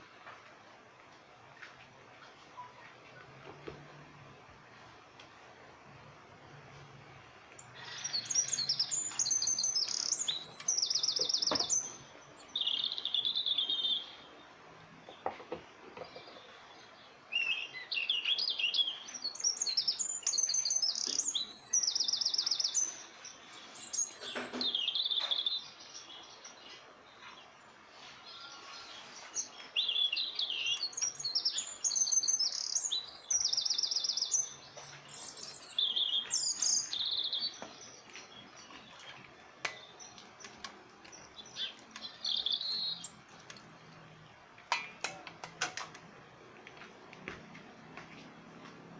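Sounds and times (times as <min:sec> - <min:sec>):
songbird singing: 0:01.5 - 0:48.9.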